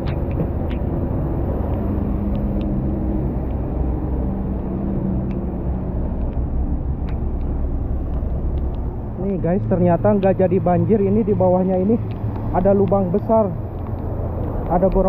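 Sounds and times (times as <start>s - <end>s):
engine hum: 0.0s - 15.0s
road traffic rumble: 0.0s - 15.0s.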